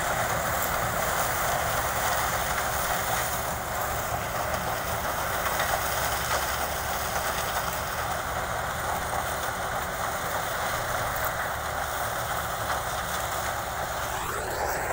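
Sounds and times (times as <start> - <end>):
low engine rumble: 0.0 - 14.9.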